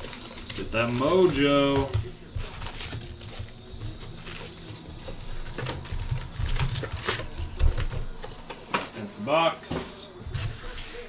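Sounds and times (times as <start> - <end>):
foil packs rustling and crinkling: 0.0 - 9.0, 10.3 - 11.0.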